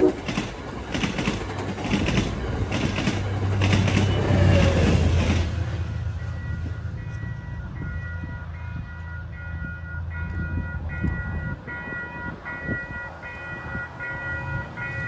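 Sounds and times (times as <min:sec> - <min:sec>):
crossing warning bell ringing: 0:02.0 - 0:15.0.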